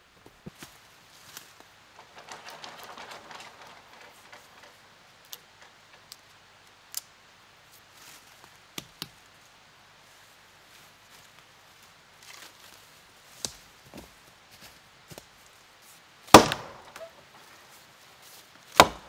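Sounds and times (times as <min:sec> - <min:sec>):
leaves and undergrowth rustling: 0:00.0 - 0:19.0.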